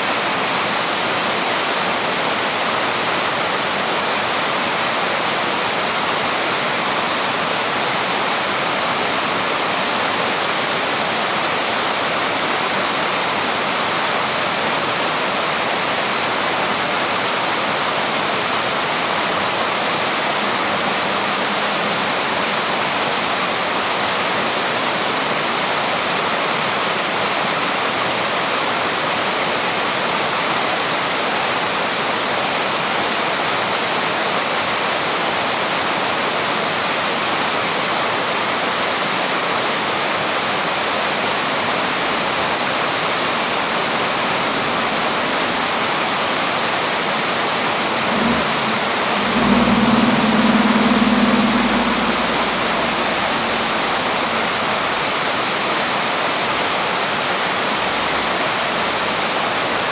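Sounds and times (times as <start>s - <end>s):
small waterfall rushing: 0.0s - 50.8s, 52.2s - 59.9s.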